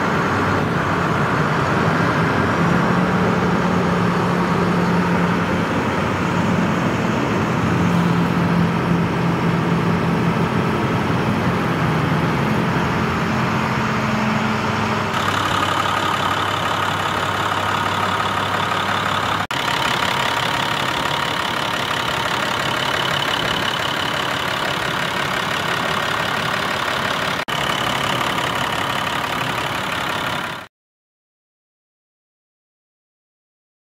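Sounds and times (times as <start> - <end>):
diesel engine idling: 0.0 - 30.7.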